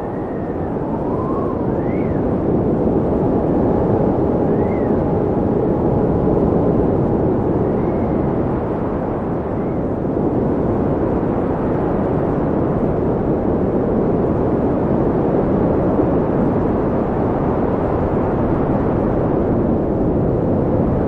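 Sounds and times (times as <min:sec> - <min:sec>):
wind blowing: 0:00.0 - 0:21.0.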